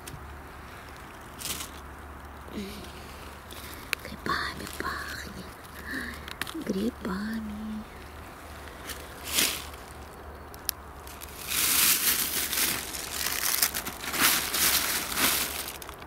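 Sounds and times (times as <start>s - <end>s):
dry leaves rustling and crunching: 0.0s - 16.0s.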